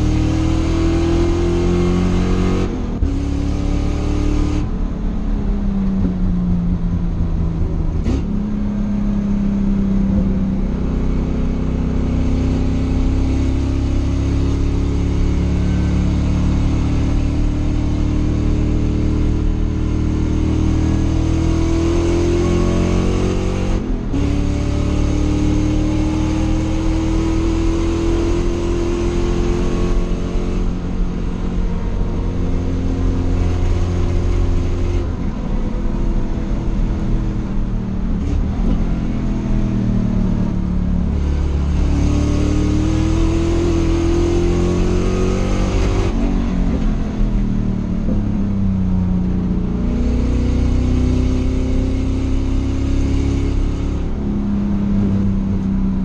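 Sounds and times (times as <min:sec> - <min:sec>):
race car engine revving: 0:00.0 - 0:04.9, 0:05.9 - 0:56.0.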